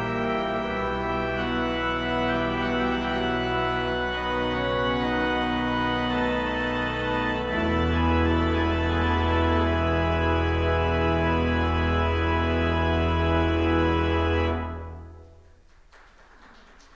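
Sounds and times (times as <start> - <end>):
organ chords: 0.0 - 15.6.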